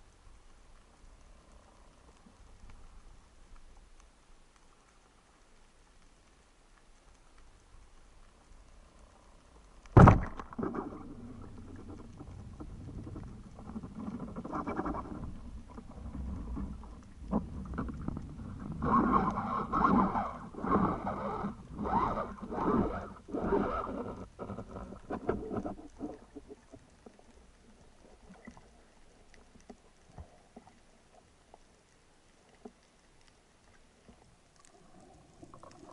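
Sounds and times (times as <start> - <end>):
water splashing and sloshing: 0.0 - 35.9.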